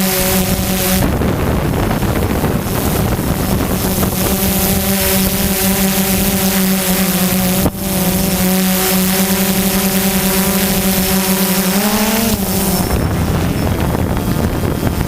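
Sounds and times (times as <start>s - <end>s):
drone propellers buzzing: 0.0s - 15.0s
wind on microphone: 0.0s - 15.0s.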